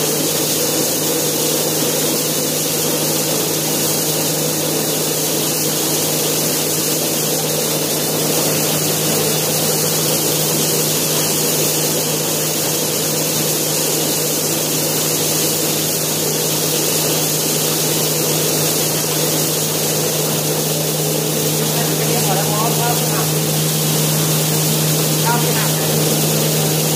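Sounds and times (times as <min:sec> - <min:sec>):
rice husker machine hum: 0:00.0 - 0:26.9.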